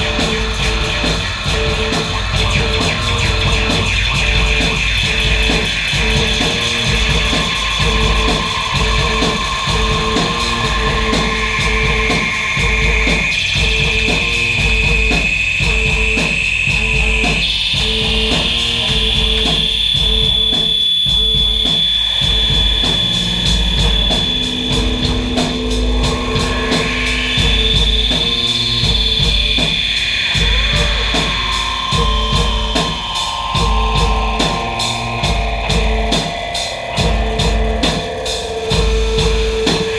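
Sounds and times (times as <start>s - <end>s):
dense layered noise tones: 0.0s - 39.9s
fast pulsing low beat: 0.0s - 39.9s
high tones stepping up in pitch: 0.0s - 39.9s.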